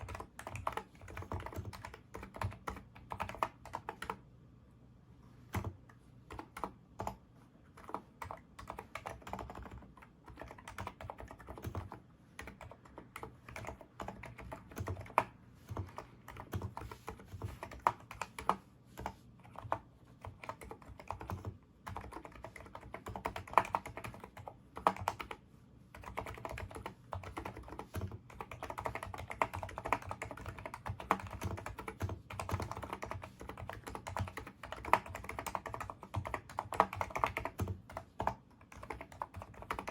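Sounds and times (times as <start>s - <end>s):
keyboard typing: 0.0s - 4.2s, 5.5s - 39.9s.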